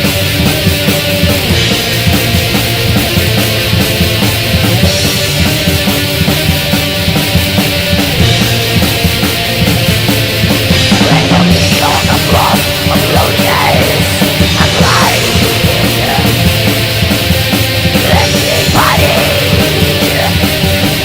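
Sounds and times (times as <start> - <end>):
heavy metal music: 0.0 - 21.0.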